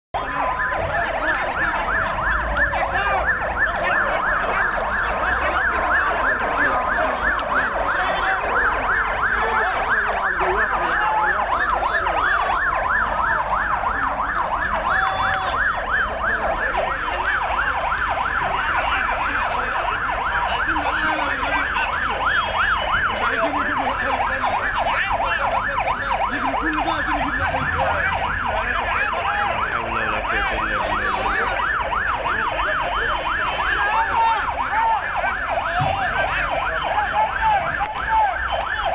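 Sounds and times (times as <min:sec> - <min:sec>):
low traffic rumble: 0:00.2 - 0:38.9
siren wailing: 0:00.2 - 0:38.9
siren yelping: 0:00.2 - 0:38.9.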